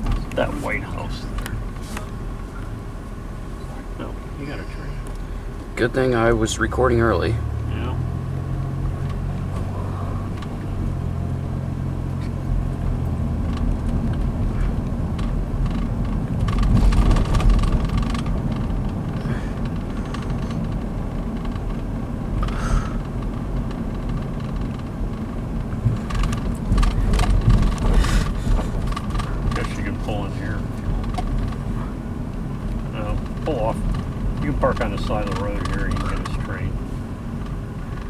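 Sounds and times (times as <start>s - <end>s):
car engine and road rumble: 0.0s - 38.0s
light rattles: 0.0s - 38.0s.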